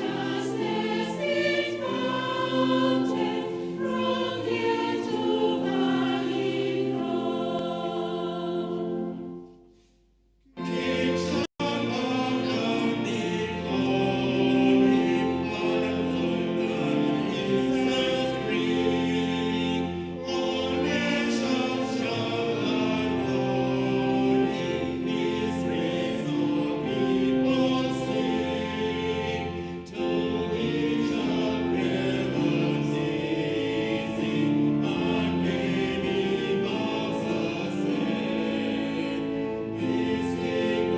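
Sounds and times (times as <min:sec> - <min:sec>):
choir singing a hymn: 0:00.0 - 0:09.6, 0:10.5 - 0:40.9.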